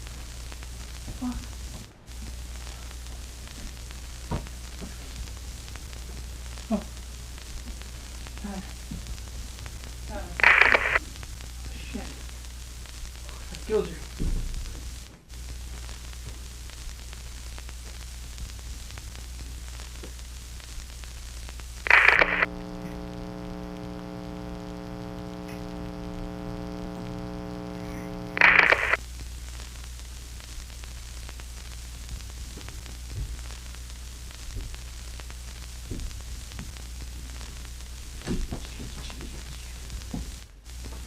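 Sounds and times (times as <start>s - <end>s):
electronic static hiss: 0.0s - 41.0s
loud static burst: 0.0s - 41.0s
low mains hum: 0.0s - 41.0s.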